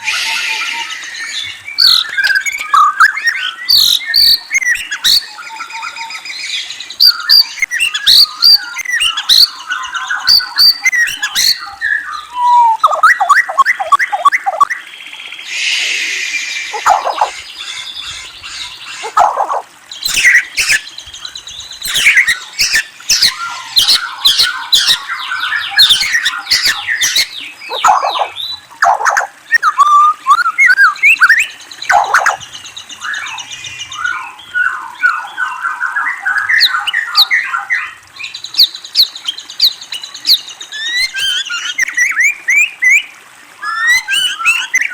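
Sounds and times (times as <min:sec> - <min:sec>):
songbird singing: 0:00.0 - 0:43.1.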